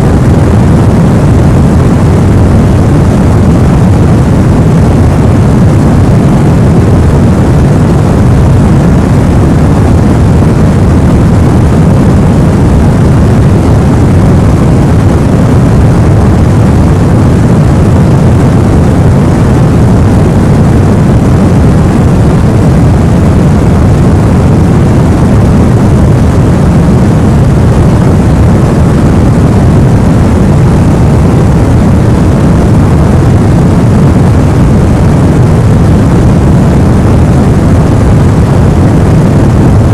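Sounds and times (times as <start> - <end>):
deep white noise hiss: 0.0 - 39.9.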